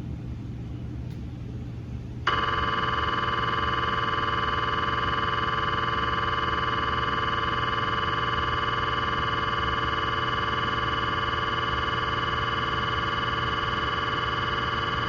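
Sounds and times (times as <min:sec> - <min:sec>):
low steady hum: 0:00.0 - 0:15.0
mri scanner pulsing buzz: 0:02.2 - 0:15.0.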